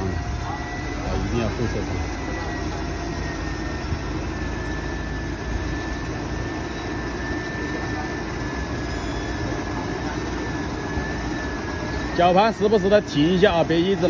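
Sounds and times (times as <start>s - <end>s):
vehicle engine running: 0.0s - 14.0s
winch whining under load: 0.0s - 14.0s.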